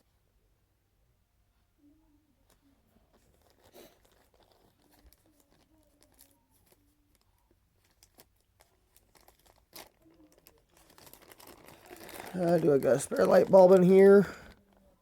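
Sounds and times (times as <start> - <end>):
faint rustling and crinkling: 1.4 - 15.0.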